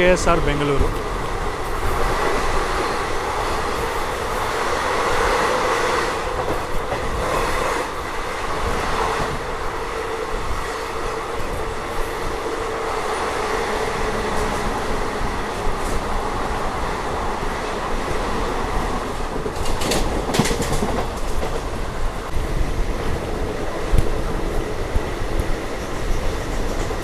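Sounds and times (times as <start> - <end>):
passing train: 0.0 - 27.0
train rumble and wheel noise: 0.0 - 27.0.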